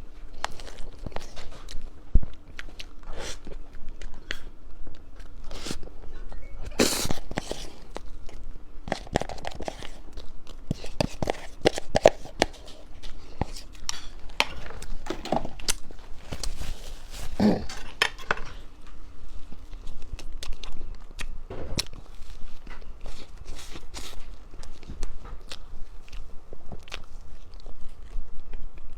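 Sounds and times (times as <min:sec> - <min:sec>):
crunching and chewing food: 0:00.0 - 0:28.9.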